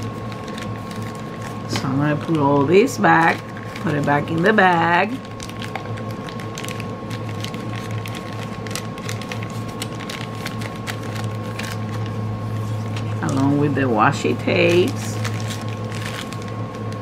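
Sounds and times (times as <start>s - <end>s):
steady low hum: 0.0s - 17.0s
light clicks and plastic crinkles: 0.3s - 12.2s, 14.7s - 17.0s.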